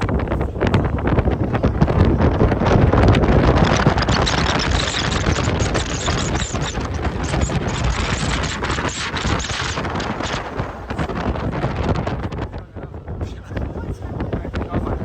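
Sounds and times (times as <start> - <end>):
boat running noise: 0.0 - 15.0
wind buffeting microphone: 0.0 - 15.0.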